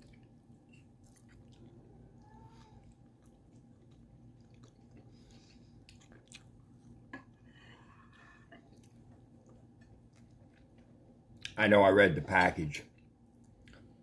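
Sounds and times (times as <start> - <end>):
person chewing: 0.0 - 11.6, 12.9 - 14.0.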